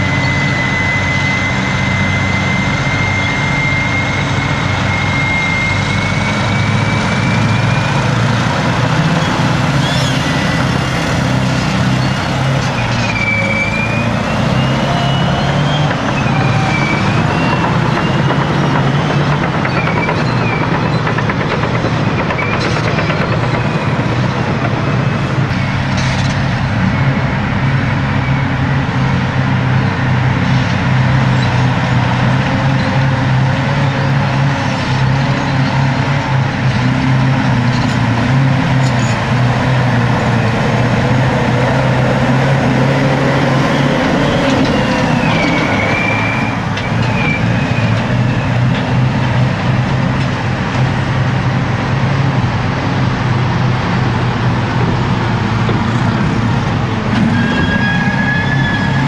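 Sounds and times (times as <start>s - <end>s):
heavy diesel engines under load: 0.0s - 59.0s.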